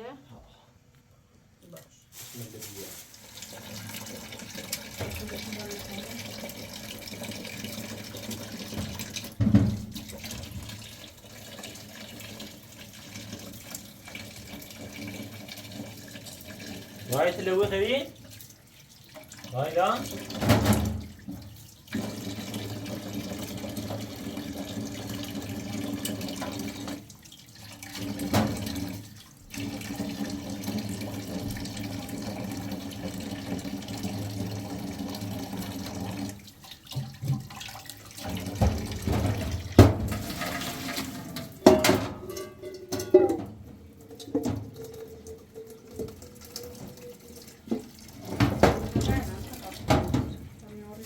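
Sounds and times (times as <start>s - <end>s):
water running: 2.2s - 51.0s.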